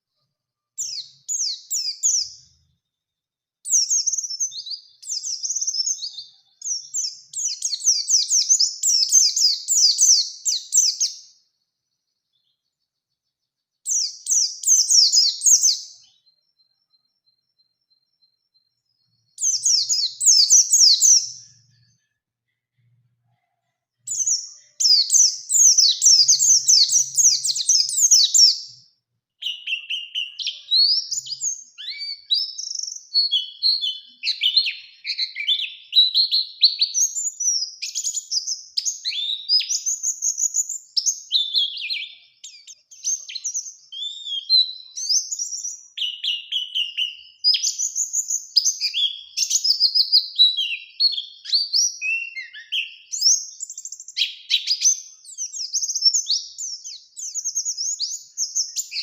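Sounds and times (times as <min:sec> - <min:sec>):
bird trilling and chirping: 0:00.8 - 0:02.7, 0:03.6 - 0:11.4, 0:13.8 - 0:16.6, 0:18.9 - 0:22.0, 0:24.0 - 0:28.8, 0:29.4 - 0:59.0.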